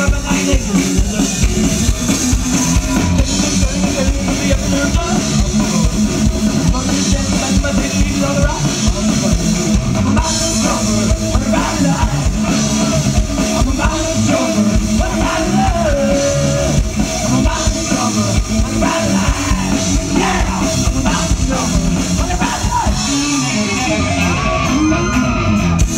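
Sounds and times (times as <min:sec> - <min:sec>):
live rock band playing: 0:00.0 - 0:25.9
person singing: 0:02.5 - 0:25.4.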